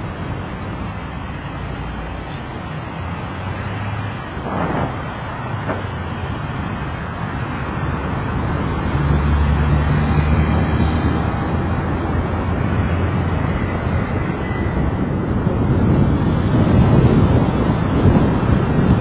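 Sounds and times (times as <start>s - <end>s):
car engine and tyre hum: 0.0s - 19.0s
cars driving past: 0.0s - 19.0s.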